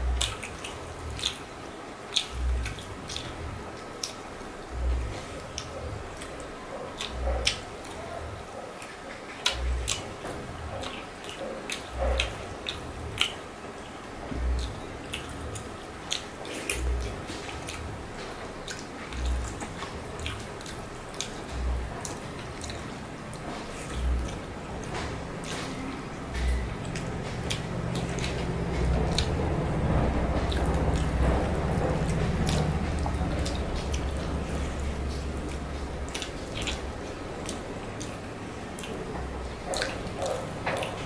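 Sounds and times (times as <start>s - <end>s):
mouth smacks: 0.0s - 1.5s, 2.1s - 13.4s, 14.2s - 41.0s.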